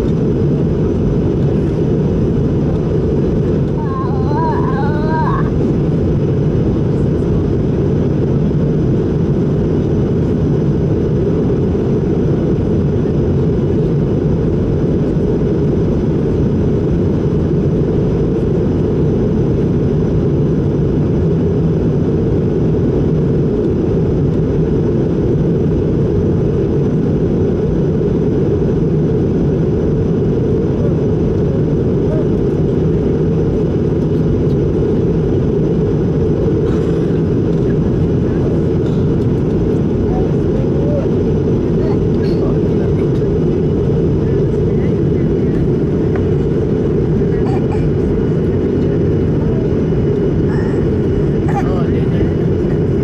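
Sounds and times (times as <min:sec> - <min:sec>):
airflow over aircraft fuselage: 0:00.0 - 0:53.0
jet engines humming: 0:00.0 - 0:53.0.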